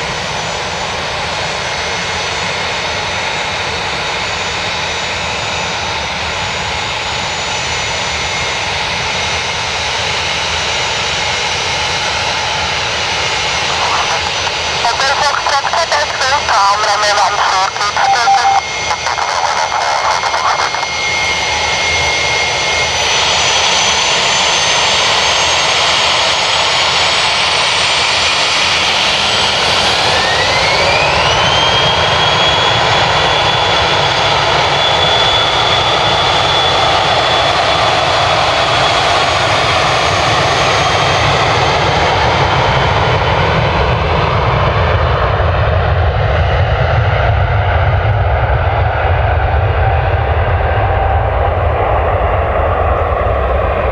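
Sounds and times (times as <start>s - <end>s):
jet engine whine: 0.0s - 53.9s
low rumble of rolling jet: 0.0s - 53.9s.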